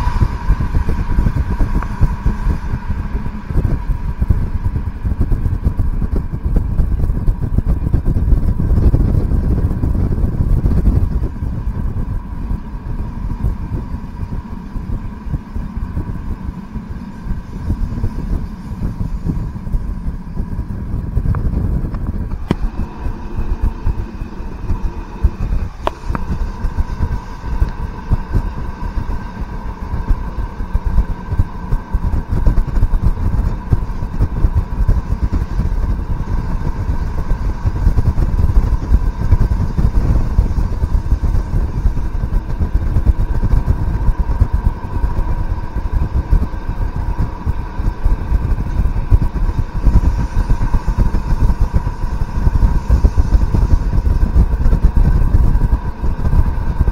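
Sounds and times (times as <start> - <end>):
high whine: 0.0 - 56.9
railcar engine and wheels rumbling: 0.0 - 56.9.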